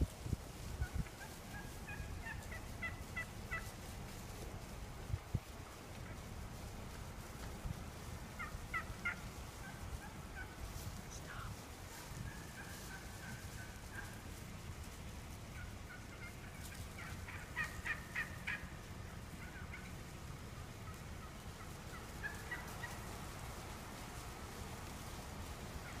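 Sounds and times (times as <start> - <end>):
wild turkeys calling: 0.4 - 26.0.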